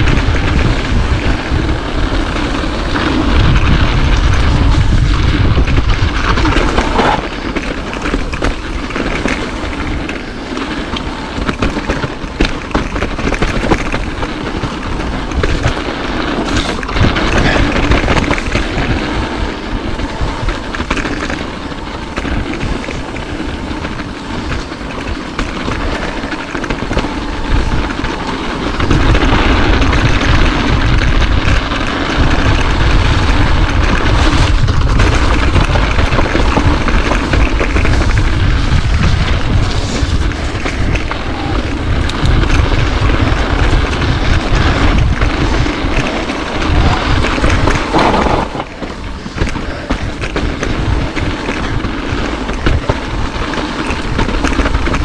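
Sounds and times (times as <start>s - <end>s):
bike rattling: 0.0s - 55.0s
tyre noise on dirt: 0.0s - 55.0s
wind buffeting microphone: 0.0s - 55.0s.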